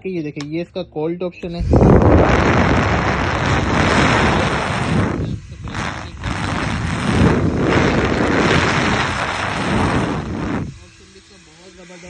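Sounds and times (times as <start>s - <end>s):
hair dryer blowing: 1.6s - 12.0s.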